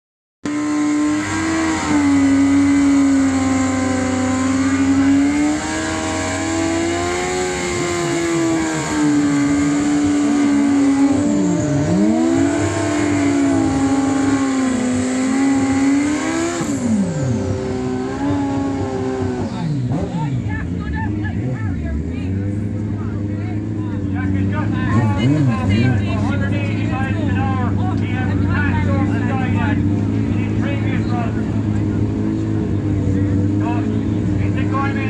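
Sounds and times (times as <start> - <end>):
motorcycle engines at high revs: 0.4 - 35.0.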